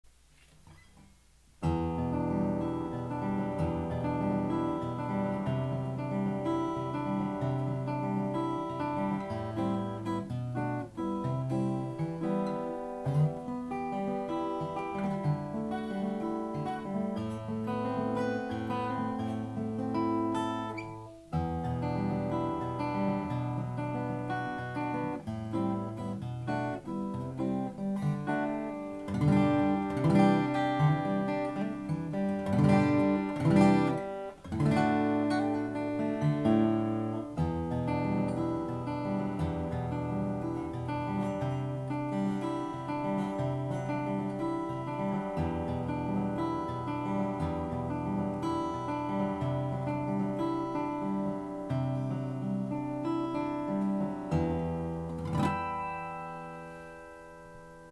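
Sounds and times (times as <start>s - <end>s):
acoustic guitar plucked melody: 0.1s - 57.9s.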